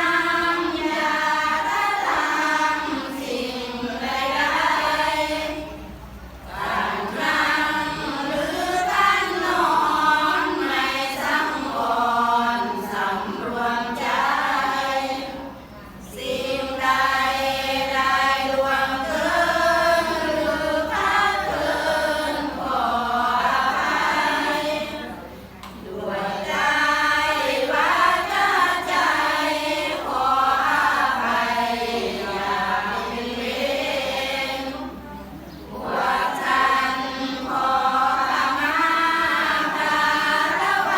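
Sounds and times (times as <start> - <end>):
group chanting in unison: 0.0 - 40.9.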